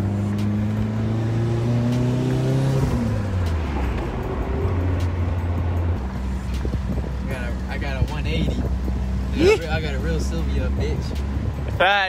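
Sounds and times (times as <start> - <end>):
car engine while driving: 0.0 - 12.0.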